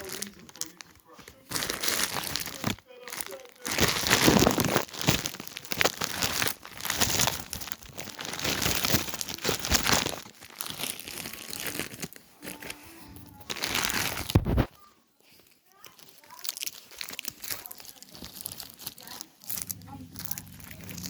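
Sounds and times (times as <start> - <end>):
crinkling and crunching: 0.0 - 21.0.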